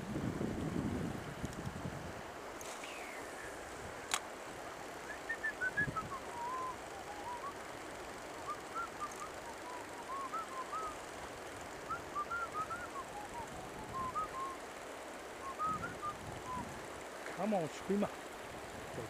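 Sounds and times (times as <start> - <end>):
songbird singing: 2.6 - 19.0.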